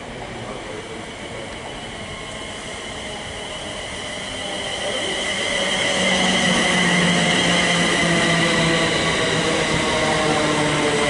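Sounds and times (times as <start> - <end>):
electric train high whine: 0.0 - 11.0
train low hum: 0.0 - 11.0
train wheels rumbling: 0.0 - 11.0.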